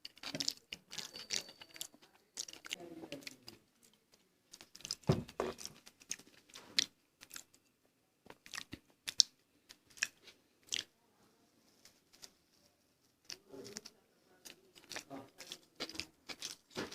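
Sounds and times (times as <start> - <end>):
chewing and crunching food: 0.0 - 11.0, 13.1 - 16.9.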